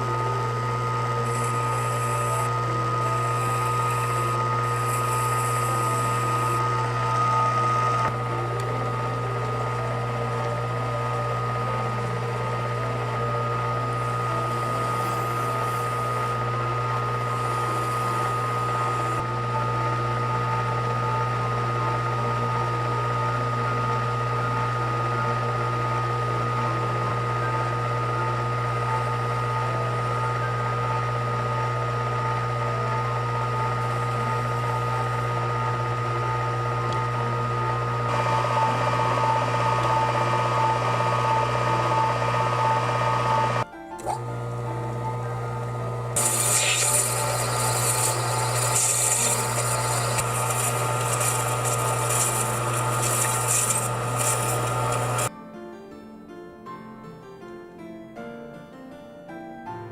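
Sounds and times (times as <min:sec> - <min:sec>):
lathe motor humming and whining: 0:00.0 - 0:55.3.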